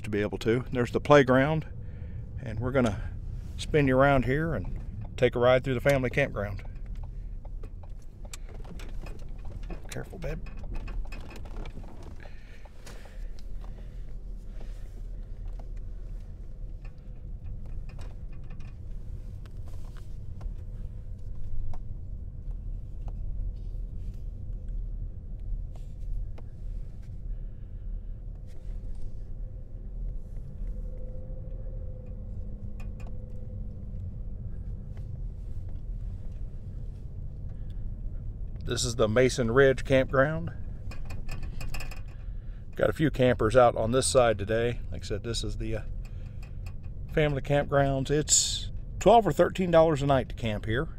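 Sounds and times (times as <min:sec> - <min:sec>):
car tyres and engine rumble: 0:00.0 - 0:50.9.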